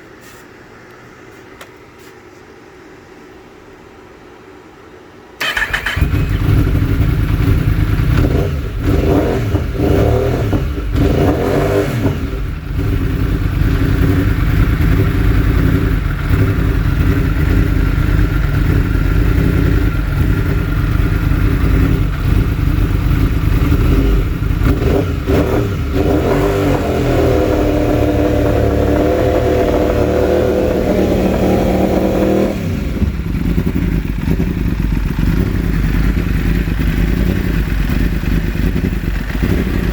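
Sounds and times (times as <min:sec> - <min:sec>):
motorcycle engine revving: 0:05.4 - 0:39.9.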